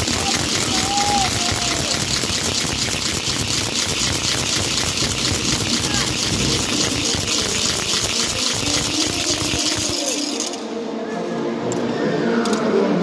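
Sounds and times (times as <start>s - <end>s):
crowd hubbub echoing indoors: 0.0s - 13.0s.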